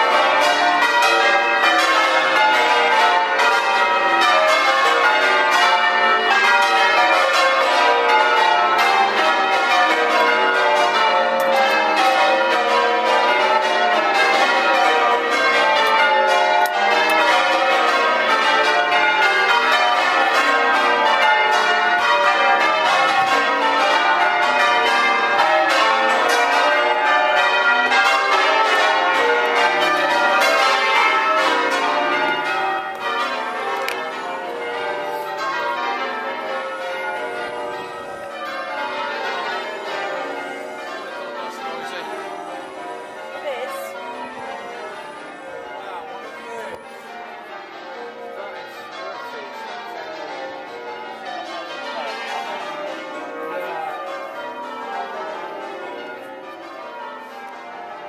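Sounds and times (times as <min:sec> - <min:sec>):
church bells change ringing: 0:00.0 - 0:58.0.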